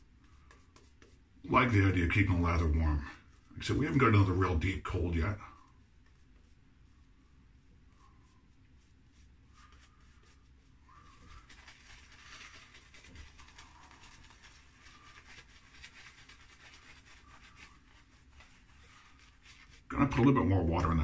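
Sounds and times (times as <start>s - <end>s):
shaving brush swishing lather: 0.0s - 21.0s.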